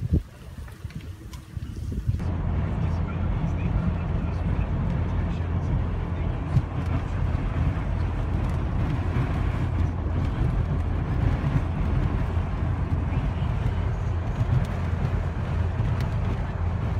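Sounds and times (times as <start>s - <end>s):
vehicle engine and tyre rumble: 0.0s - 16.9s.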